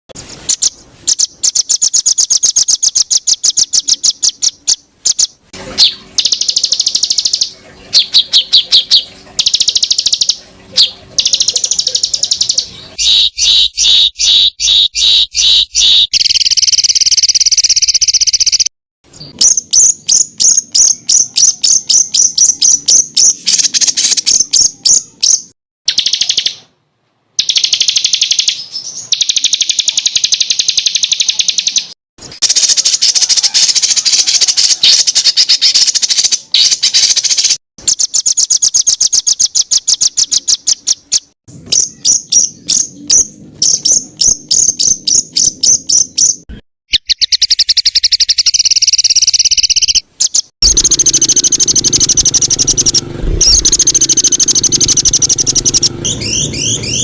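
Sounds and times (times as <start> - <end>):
songbirds trilling: 0.5 - 18.6, 27.4 - 57.0.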